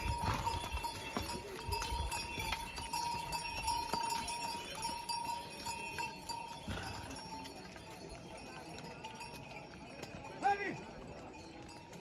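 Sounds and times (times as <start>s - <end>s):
mule bells jingling: 0.0s - 12.0s.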